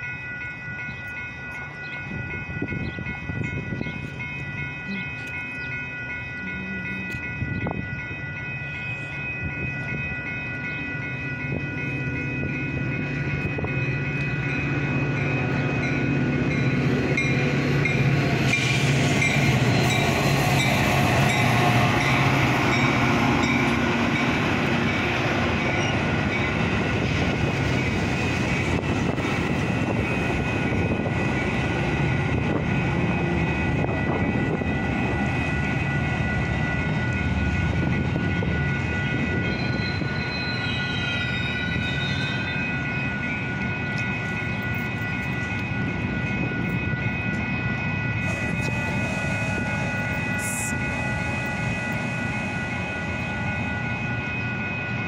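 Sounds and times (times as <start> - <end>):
crossing warning bell ringing: 0.0 - 55.0
train rolling past: 0.0 - 55.0.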